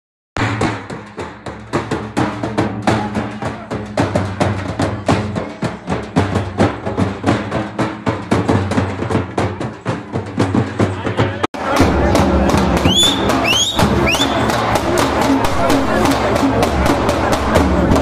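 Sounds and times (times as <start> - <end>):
fast loud drumming: 0.4 - 18.0.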